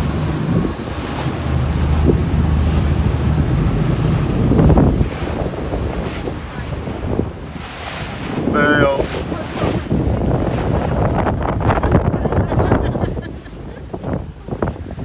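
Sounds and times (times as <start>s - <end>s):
boat engine drone: 0.0s - 15.0s
rush of boat wake: 0.0s - 15.0s
wind buffeting microphone: 0.0s - 15.0s.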